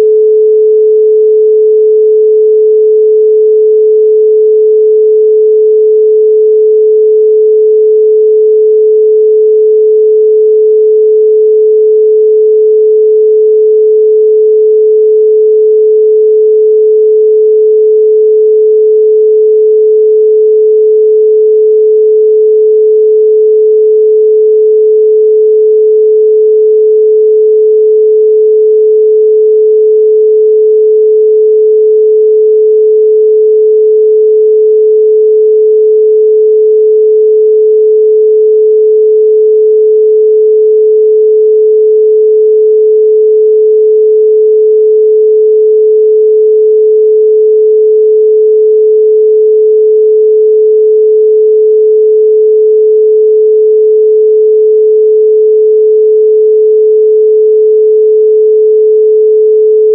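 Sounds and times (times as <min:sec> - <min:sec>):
pure sine tone: 0:00.0 - 0:59.9.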